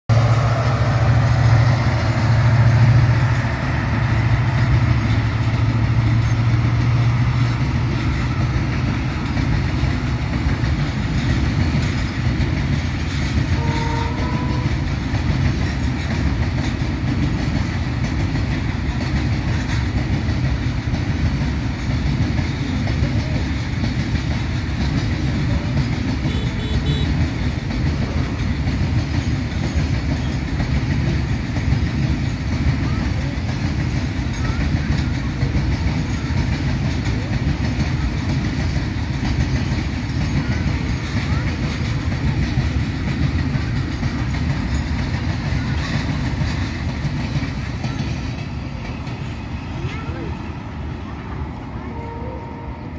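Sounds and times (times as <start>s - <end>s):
diesel locomotive engine hum: 0.0s - 52.9s
train wheels rumbling on rail: 0.0s - 52.9s.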